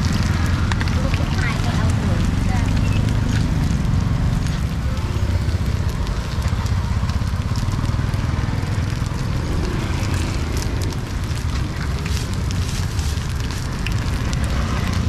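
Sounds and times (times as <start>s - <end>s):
crackling hiss: 0.0s - 15.0s
low rumble: 0.0s - 15.0s.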